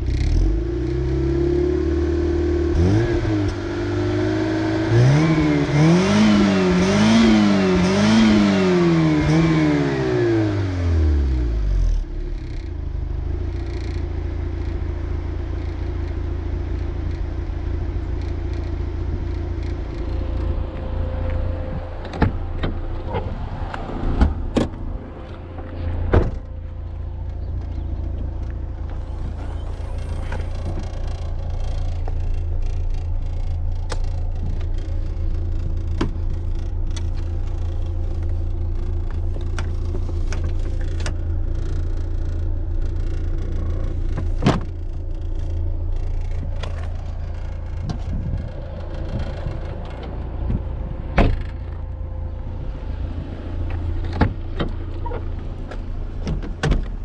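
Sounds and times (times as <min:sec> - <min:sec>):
car engine running: 0:00.0 - 0:57.0
road and tyre rumble: 0:00.0 - 0:57.0.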